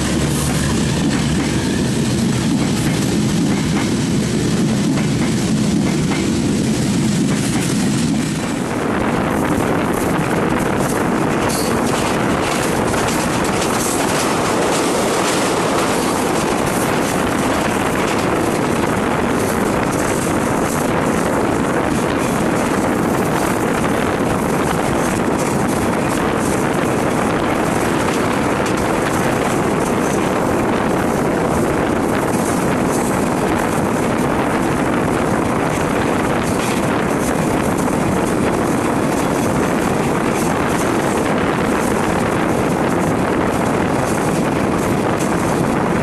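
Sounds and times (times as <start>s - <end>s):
passing train alongside: 0.0s - 46.0s
rushing air: 0.0s - 46.0s
train wheels on rails: 0.0s - 46.0s.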